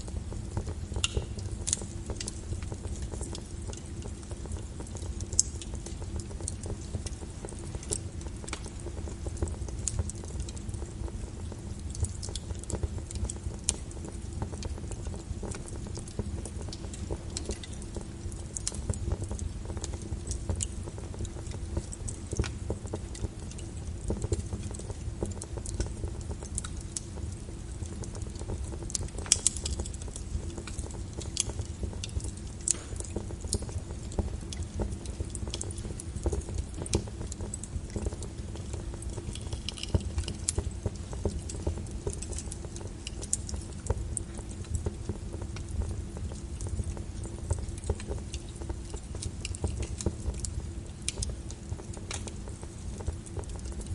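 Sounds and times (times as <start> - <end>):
burning logs crackling and popping: 0.0 - 53.9
fire flame rumble: 0.0 - 53.9.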